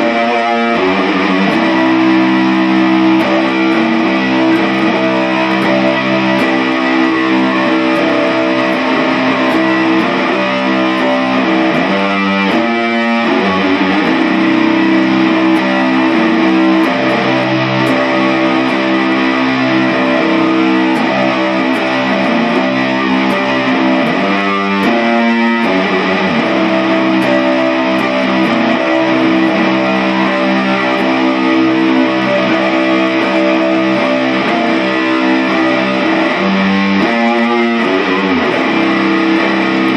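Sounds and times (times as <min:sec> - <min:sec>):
distorted electric guitar music: 0:00.0 - 0:39.9.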